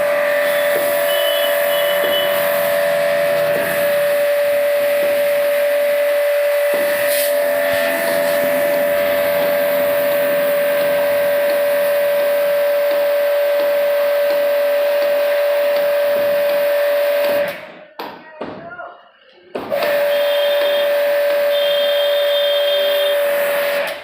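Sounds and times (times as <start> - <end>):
machine humming and hissing: 0.0 - 17.7, 19.7 - 24.0.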